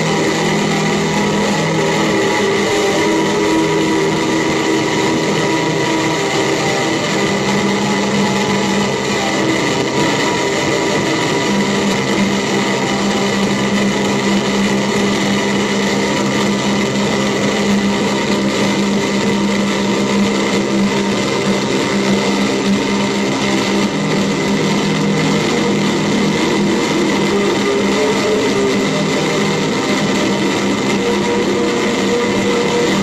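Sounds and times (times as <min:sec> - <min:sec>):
loud buzzing drone: 0:00.0 - 0:33.0
low hum: 0:00.0 - 0:33.0.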